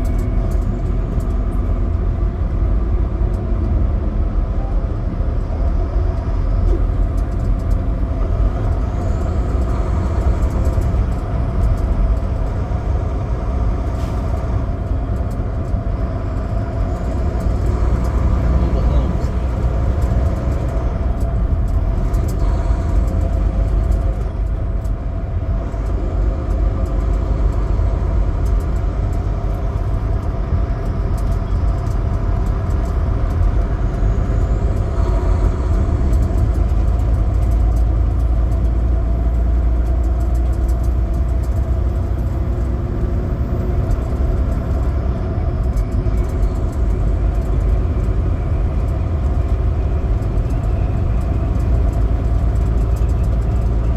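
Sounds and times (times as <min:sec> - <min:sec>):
road and tyre noise: 0:00.0 - 0:53.9
truck diesel engine rumbling: 0:00.0 - 0:53.9.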